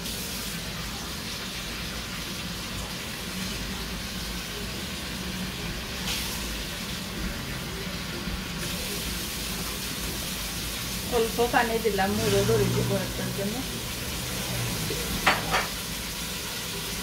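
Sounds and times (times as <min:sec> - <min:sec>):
spice paste sizzling in hot oil: 0:00.0 - 0:17.0.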